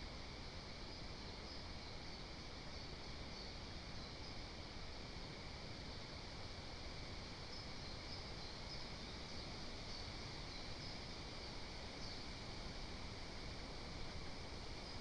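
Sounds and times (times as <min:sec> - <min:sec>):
steady forest hiss: 0:00.0 - 0:15.0.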